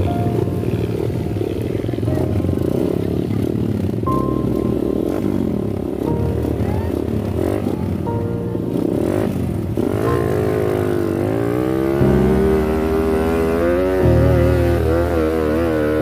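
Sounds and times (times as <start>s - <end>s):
background music: 0.0s - 16.0s
motorcycle engine revving: 0.0s - 16.0s.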